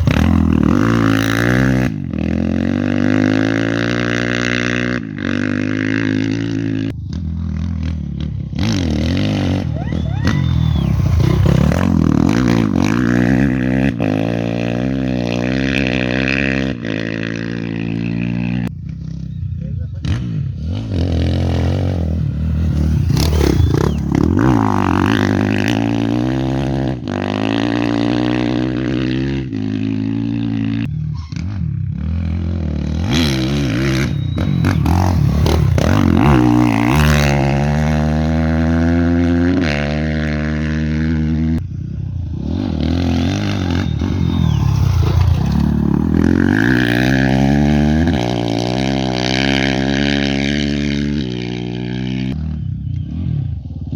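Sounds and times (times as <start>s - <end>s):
motorcycles revving past: 0.0s - 53.9s.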